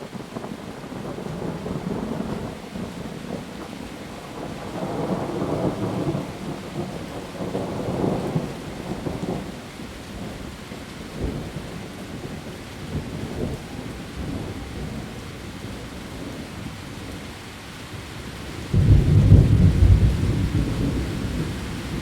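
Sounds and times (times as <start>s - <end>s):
heavy rain on leaves: 0.0s - 22.0s.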